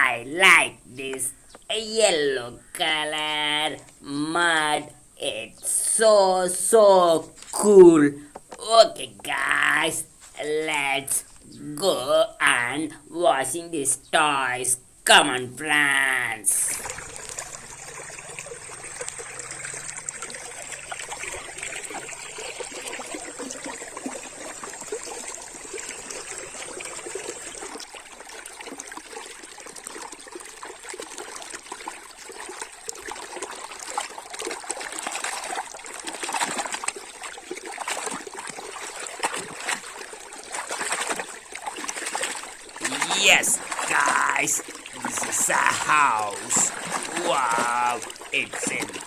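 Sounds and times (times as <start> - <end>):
water trickling and splashing: 0.0 - 14.5, 15.7 - 49.0.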